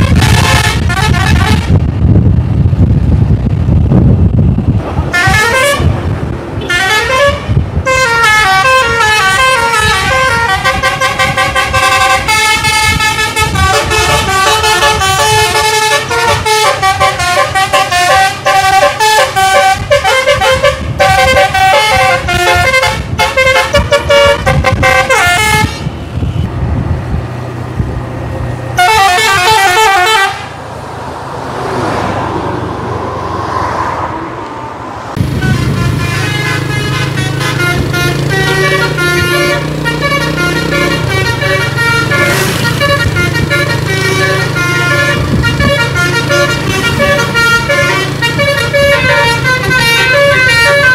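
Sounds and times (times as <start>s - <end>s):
multi-tone musical bus horn: 0.0s - 1.9s, 5.1s - 26.5s, 28.8s - 30.6s, 35.2s - 50.9s
diesel engine running: 0.0s - 30.7s, 35.1s - 50.9s.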